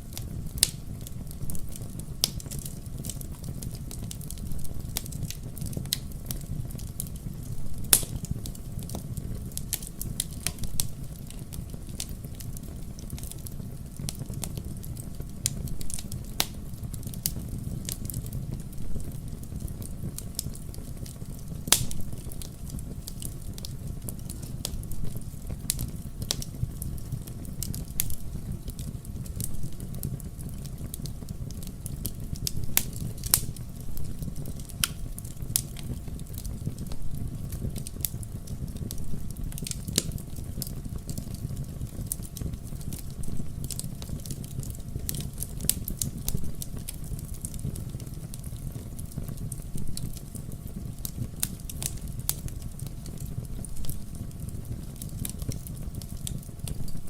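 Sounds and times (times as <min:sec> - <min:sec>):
fire pops: 0:00.0 - 0:57.0
wood fire crackling: 0:00.0 - 0:57.0.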